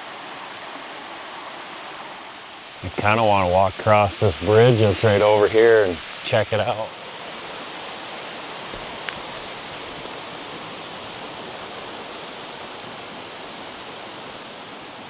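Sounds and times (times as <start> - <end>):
water rushing through dam: 0.0 - 15.0.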